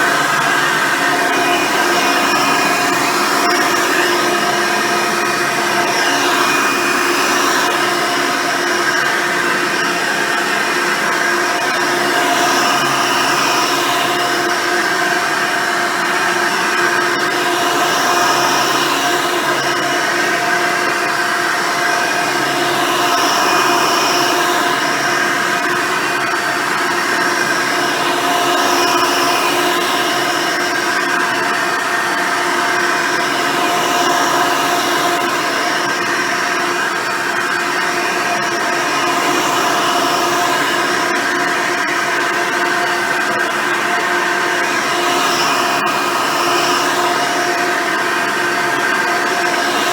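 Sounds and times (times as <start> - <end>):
vacuum cleaner droning: 0.0 - 49.9.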